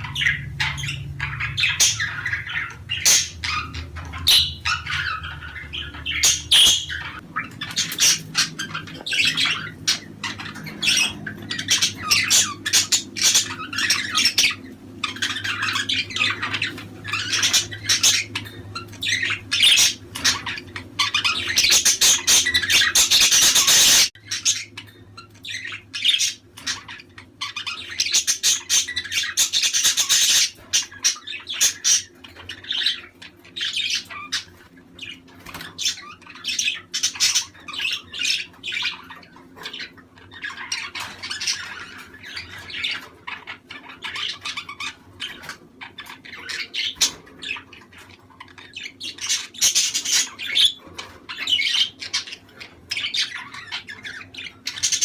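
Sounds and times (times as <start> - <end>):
budgerigars chattering and squawking: 0.0 - 55.0
low background hum: 0.0 - 55.0.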